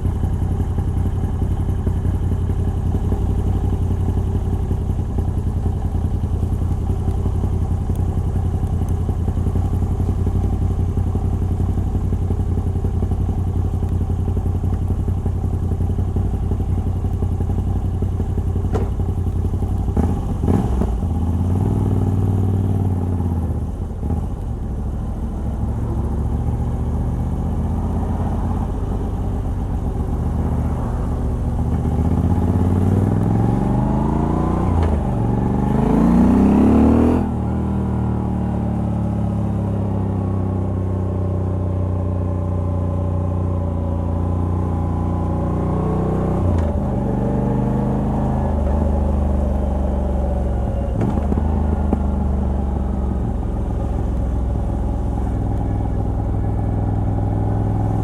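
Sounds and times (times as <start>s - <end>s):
motorcycle engine running and revving: 0.0s - 58.0s.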